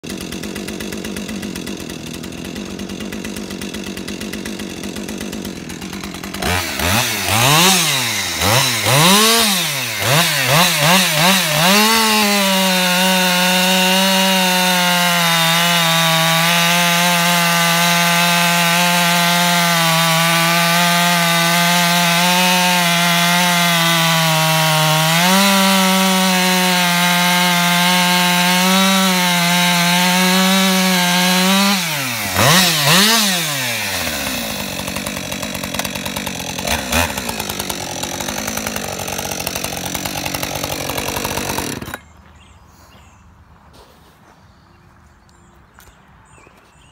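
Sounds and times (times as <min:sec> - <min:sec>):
chainsaw idling and revving: 0:00.0 - 0:42.2
chainsaw cutting into stump: 0:00.0 - 0:42.5.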